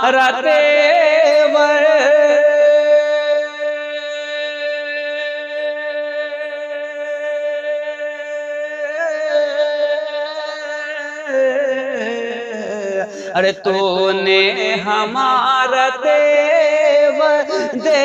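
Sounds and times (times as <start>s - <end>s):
person singing a long note: 0.0s - 18.0s.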